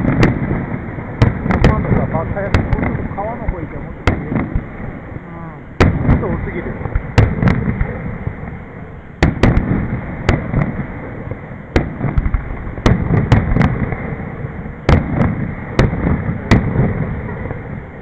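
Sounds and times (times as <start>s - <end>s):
firework shells bursting: 0.0s - 5.2s, 5.8s - 17.7s
rolling rumble echo: 0.0s - 18.0s.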